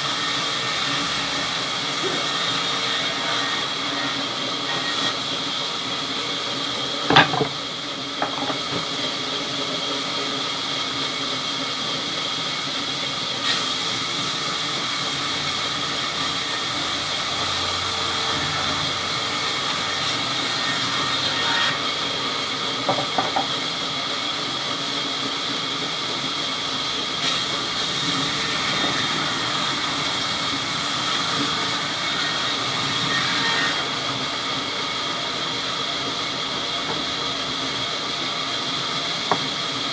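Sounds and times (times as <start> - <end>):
sawmill machinery hissing hum: 0.0 - 39.9.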